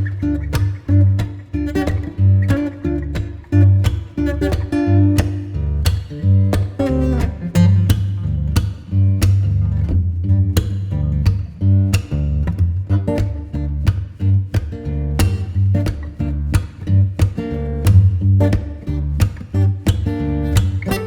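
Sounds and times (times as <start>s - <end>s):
plucked guitar with bass line: 0.0s - 21.0s.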